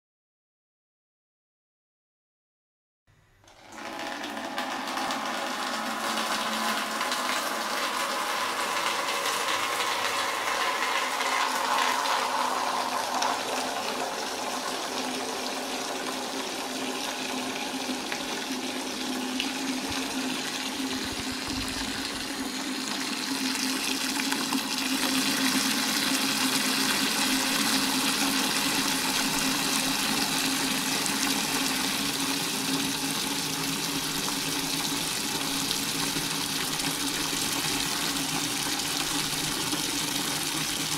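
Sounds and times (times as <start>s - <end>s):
tap water filling a bucket: 3.5s - 40.9s.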